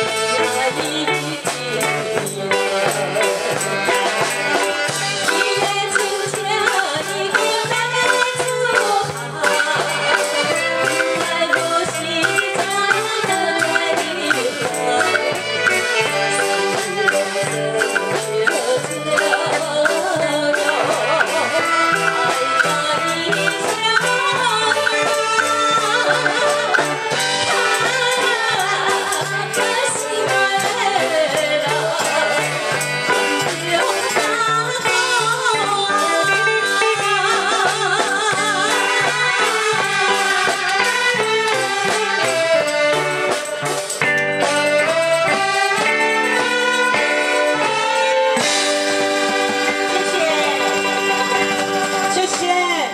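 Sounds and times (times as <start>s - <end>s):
live band music: 0.0s - 52.9s.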